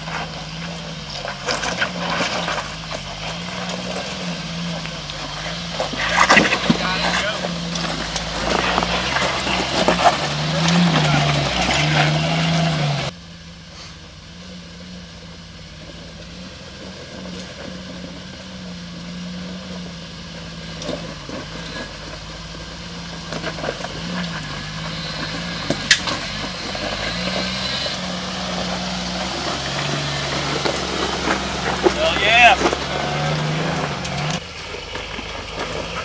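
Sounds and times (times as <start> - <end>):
off-road vehicle engine at low speed: 0.0 - 36.0.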